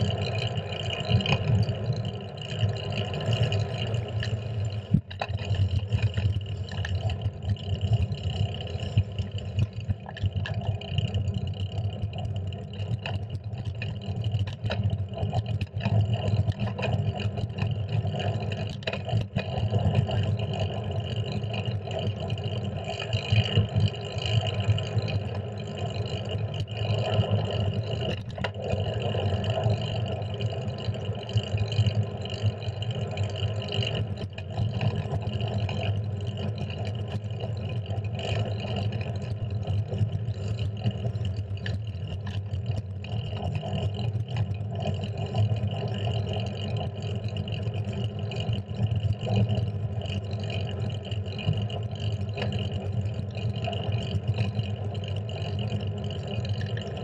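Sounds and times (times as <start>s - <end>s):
bicycle road rumble: 0.0s - 57.0s.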